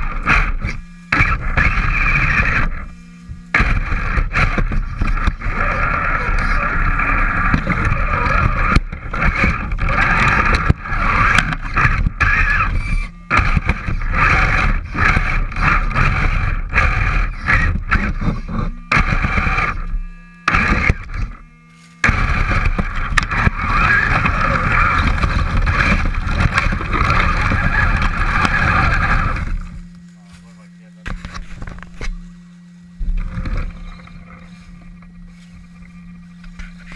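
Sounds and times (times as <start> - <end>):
chassis scraping and knocking: 0.0 - 30.1
toy truck motor and gears whining: 0.0 - 36.9.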